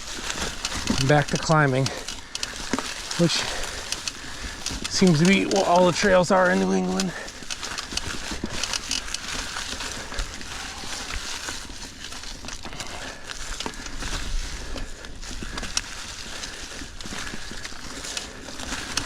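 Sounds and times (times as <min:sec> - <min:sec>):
bike clicks and rattles: 0:00.0 - 0:19.0
bike tyres crunching over rocks: 0:00.0 - 0:19.0.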